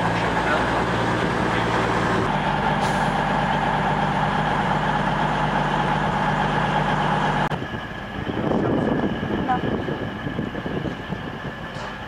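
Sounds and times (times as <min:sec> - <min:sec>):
diesel train engine idling: 0:00.0 - 0:12.0.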